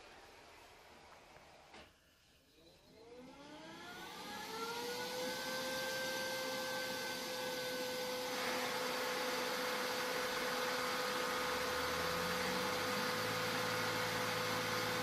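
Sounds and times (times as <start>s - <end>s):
robot vacuum motor whine: 2.6s - 15.0s.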